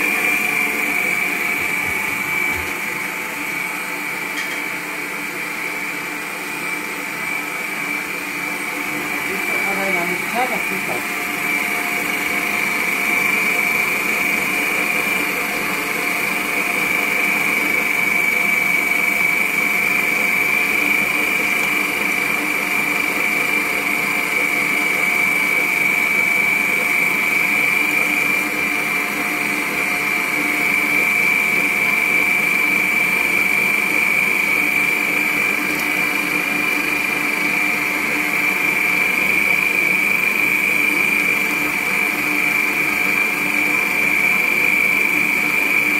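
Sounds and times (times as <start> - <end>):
stand mixer motor whining: 0.0 - 45.9.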